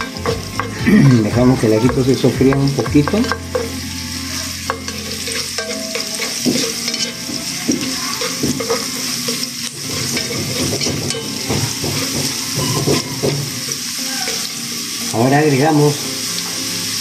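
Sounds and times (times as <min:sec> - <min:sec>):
spoon scraping pot bottom: 0:00.0 - 0:03.8, 0:04.6 - 0:14.5
garlic sizzling in hot oil: 0:00.0 - 0:17.0.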